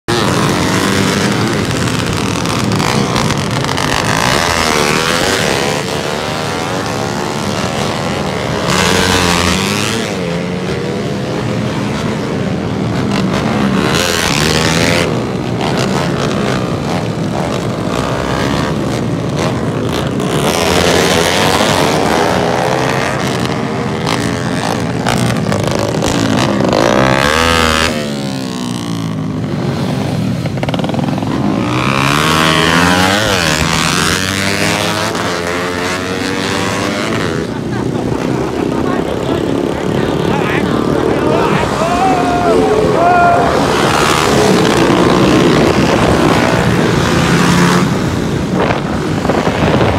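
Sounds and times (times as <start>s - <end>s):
motorcycles revving and passing: 0.0s - 49.9s.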